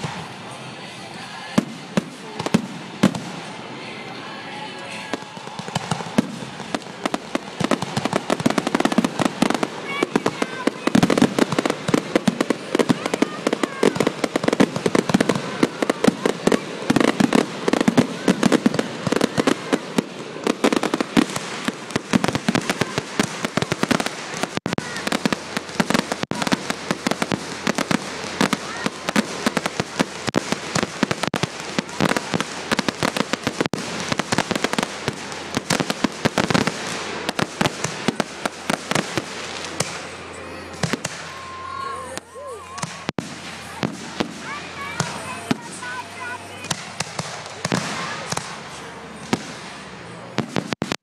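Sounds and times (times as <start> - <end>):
fireworks crackling and popping: 0.0 - 51.0.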